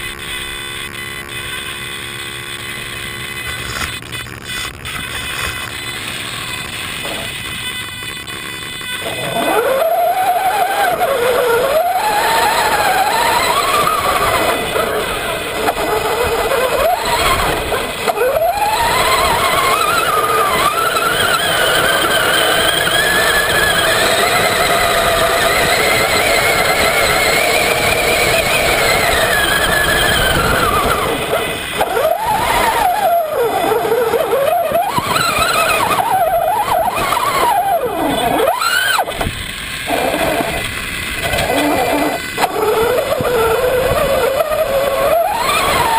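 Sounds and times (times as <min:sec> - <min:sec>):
rc truck electric motor whine: 0:00.0 - 0:45.9.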